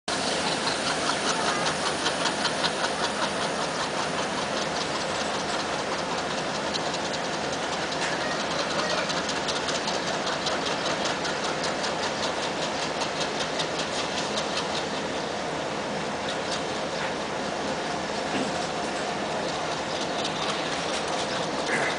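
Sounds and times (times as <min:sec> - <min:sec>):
diesel locomotive engine throbbing: 0:00.1 - 0:21.9.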